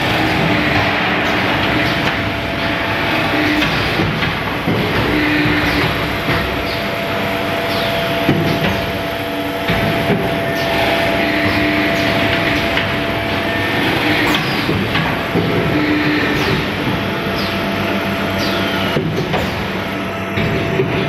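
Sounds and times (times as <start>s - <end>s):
steady machine whine: 0.0s - 21.0s.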